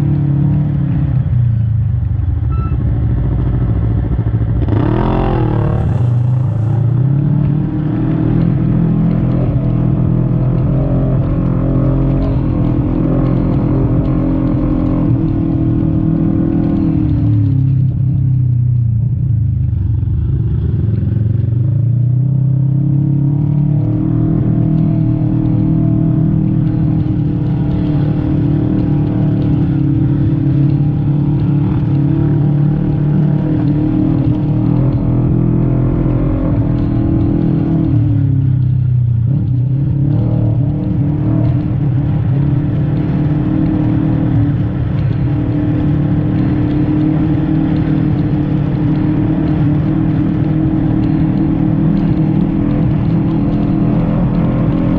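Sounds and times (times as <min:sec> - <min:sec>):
utility vehicle engine running hard: 0:00.0 - 0:54.9.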